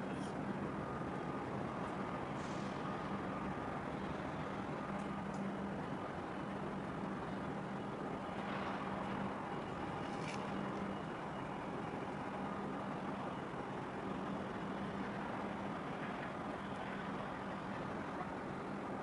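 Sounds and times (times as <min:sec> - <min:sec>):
ship diesel engines droning: 0:00.0 - 0:19.0.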